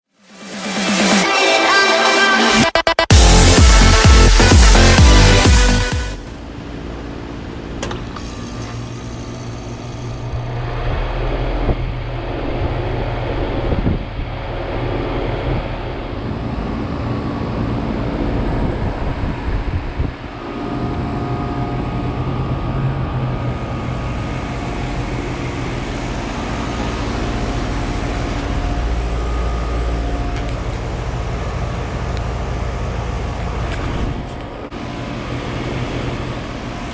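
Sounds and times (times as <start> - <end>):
heat pump humming: 3.1 - 36.9.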